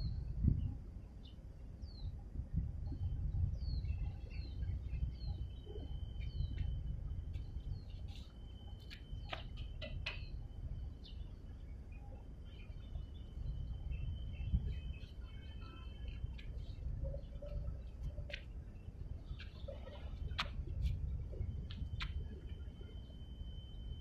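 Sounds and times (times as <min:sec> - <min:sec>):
steady low rumble: 0:00.0 - 0:24.0
small birds chirping: 0:02.8 - 0:23.1.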